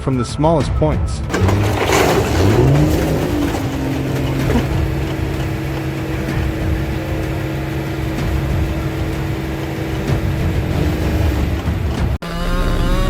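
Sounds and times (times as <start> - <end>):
engine revving: 1.3 - 12.2.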